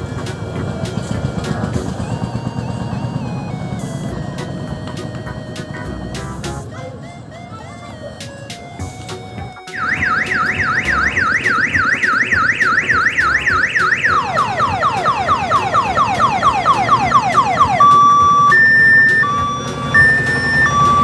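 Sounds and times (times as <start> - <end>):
electronic siren wailing: 0.0 - 21.0.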